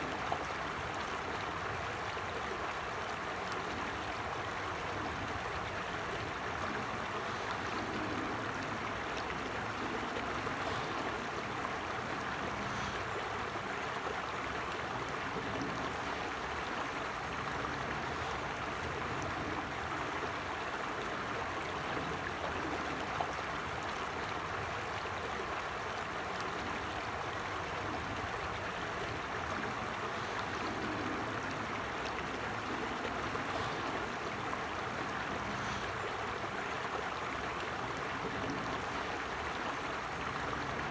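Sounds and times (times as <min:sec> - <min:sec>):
creek flowing over stones: 0:00.0 - 0:40.9.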